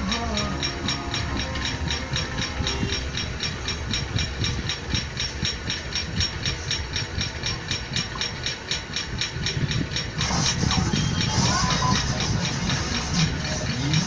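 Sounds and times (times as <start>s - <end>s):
low machine rumble: 0.0s - 14.0s
machine ticking rapidly: 0.0s - 14.0s.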